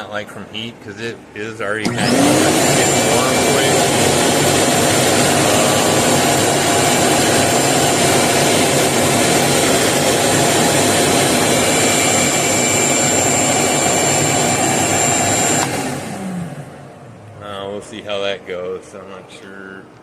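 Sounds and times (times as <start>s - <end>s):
shop vac running: 1.7s - 18.4s.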